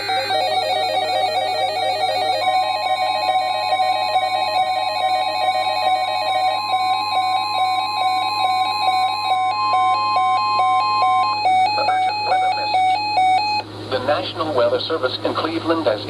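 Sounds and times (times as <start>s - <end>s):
alternating electronic beeping tones: 0.0s - 13.7s
steady warning alarm tone: 0.0s - 13.8s.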